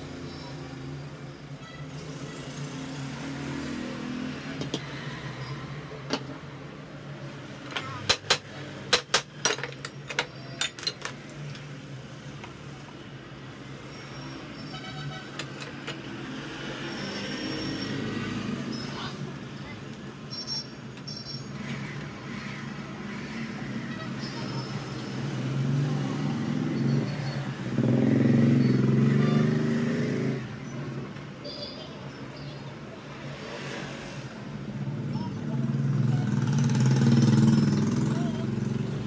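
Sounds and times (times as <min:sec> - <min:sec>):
traffic hum: 0:00.0 - 0:39.0.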